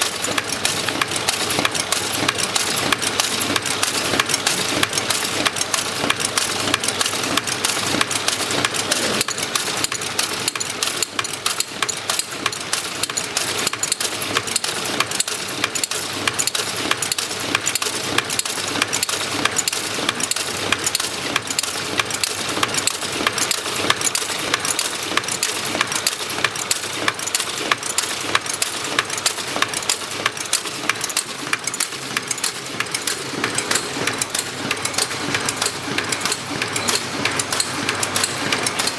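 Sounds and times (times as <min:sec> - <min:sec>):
packaging machine clattering: 0:00.0 - 0:38.9.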